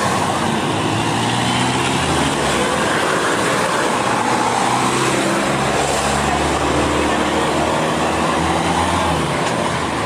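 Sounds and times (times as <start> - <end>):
cars driving past: 0.0 - 10.0.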